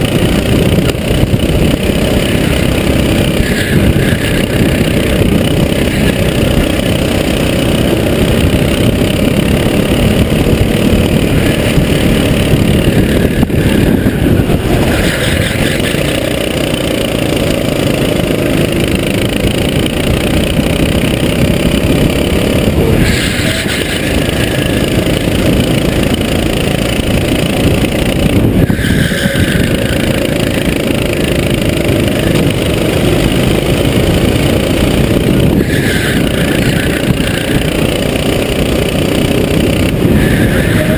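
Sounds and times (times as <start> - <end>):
kart engine running hard: 0.0 - 40.9.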